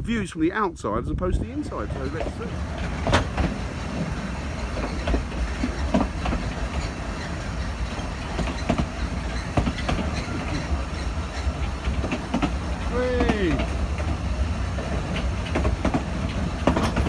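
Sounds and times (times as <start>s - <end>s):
railway carriage rumbling: 0.0s - 17.0s
wheels clicking over rail joints: 1.5s - 17.0s.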